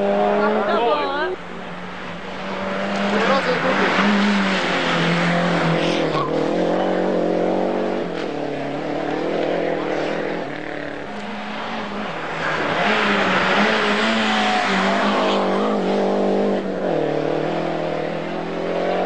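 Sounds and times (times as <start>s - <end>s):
rally car engine revving high: 0.0s - 1.3s, 2.0s - 19.0s.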